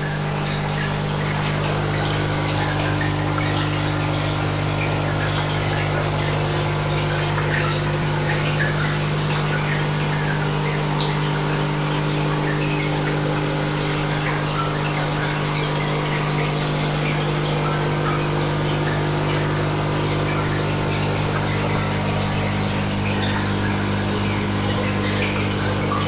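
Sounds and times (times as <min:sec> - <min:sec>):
pump hum: 0:00.0 - 0:26.0
water trickling and bubbling: 0:00.0 - 0:26.0.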